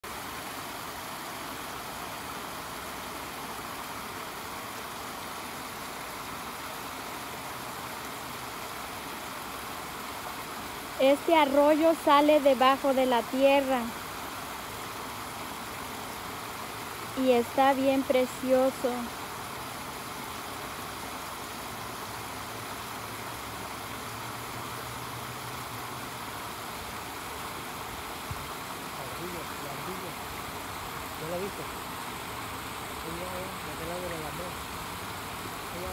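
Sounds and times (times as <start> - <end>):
spring water gushing and splashing: 0.0 - 35.9.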